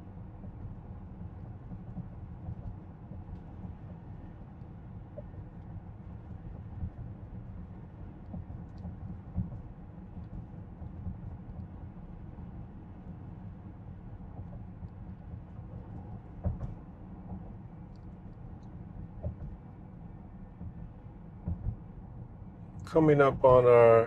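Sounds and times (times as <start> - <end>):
road and tyre rumble in car: 0.0 - 24.0.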